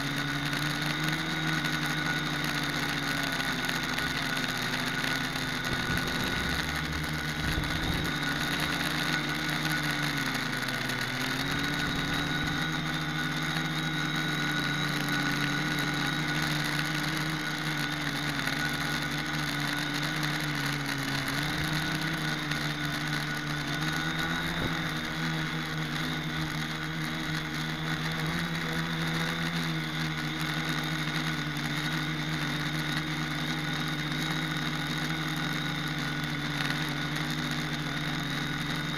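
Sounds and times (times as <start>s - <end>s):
quadcopter motors whirring: 0.0s - 38.9s
thin high whine: 0.0s - 38.9s.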